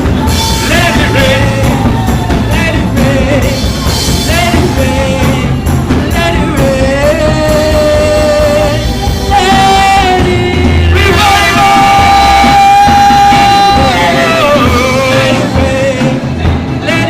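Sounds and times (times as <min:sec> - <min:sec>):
full band playing: 0:00.0 - 0:17.0
person singing long notes: 0:00.3 - 0:17.0.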